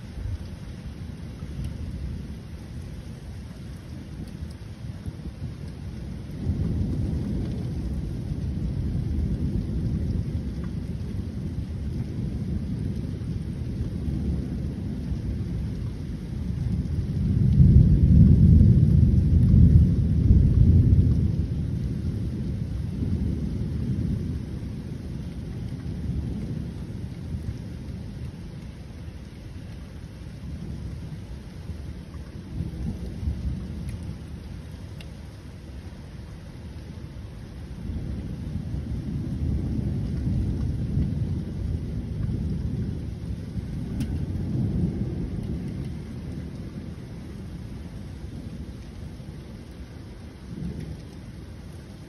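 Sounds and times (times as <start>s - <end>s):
thunder rumbling: 0.0s - 52.0s.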